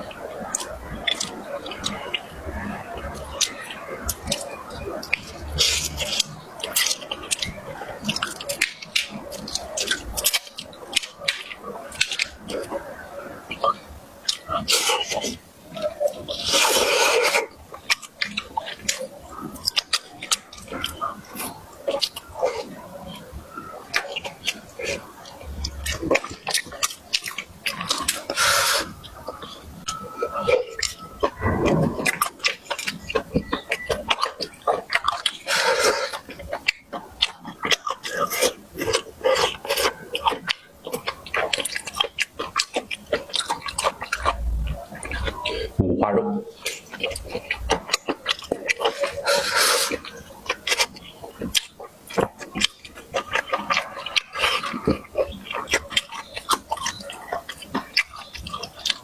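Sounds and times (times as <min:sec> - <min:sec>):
wet chewing and mouth smacking: 0:00.0 - 0:59.0.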